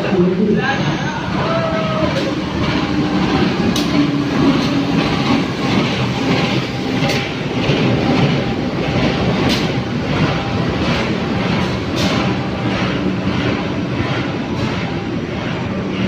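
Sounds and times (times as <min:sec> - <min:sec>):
train wheels rumbling on rails: 0:00.0 - 0:16.0
wheels clacking over rail joints: 0:01.4 - 0:16.0.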